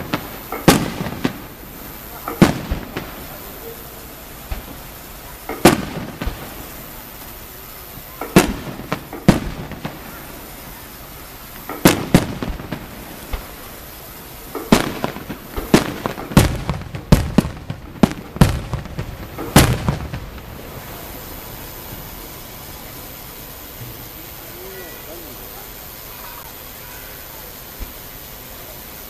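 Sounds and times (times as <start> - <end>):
firework shells bursting: 0.0 - 29.0.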